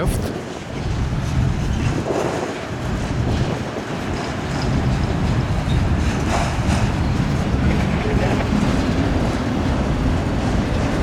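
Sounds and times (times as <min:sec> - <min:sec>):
clacks over rail joints: 0:00.2 - 0:11.0
train wheels rolling on rails: 0:00.2 - 0:11.0.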